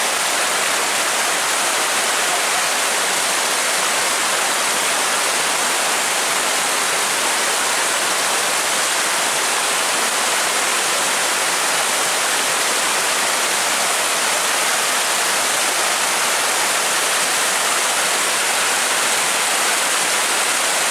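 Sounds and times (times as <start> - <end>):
floodwater rushing: 0.0 - 20.9.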